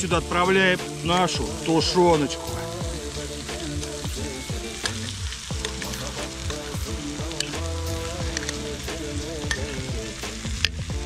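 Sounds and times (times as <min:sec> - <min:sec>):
background music: 0:00.0 - 0:11.0
food sizzling in a pan: 0:00.0 - 0:11.0.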